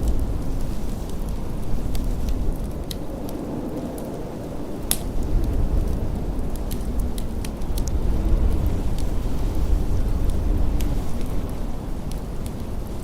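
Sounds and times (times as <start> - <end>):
blizzard wind rumble: 0.0 - 13.0
wood fire crackling and popping: 0.0 - 13.0.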